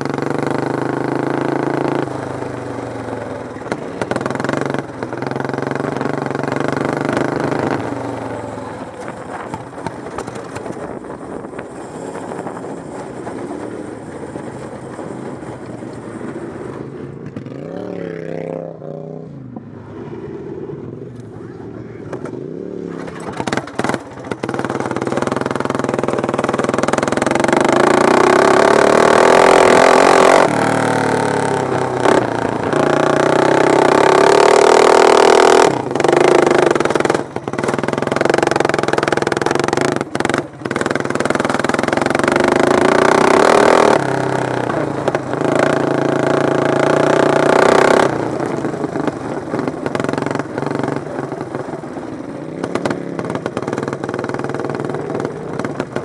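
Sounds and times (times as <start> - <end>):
lawn mower engines revving: 0.0 - 56.0.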